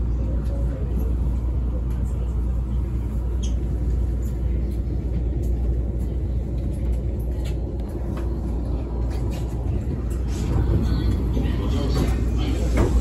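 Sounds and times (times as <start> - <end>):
train cab rumble and hum: 0.0 - 13.0.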